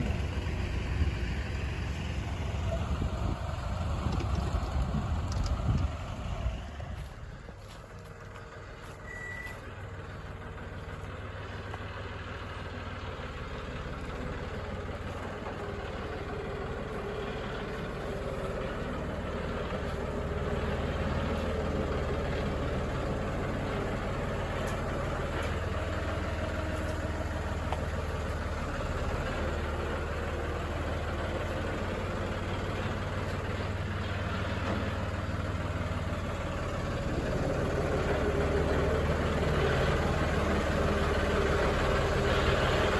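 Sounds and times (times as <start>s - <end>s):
vehicle engine humming: 0.0s - 42.9s.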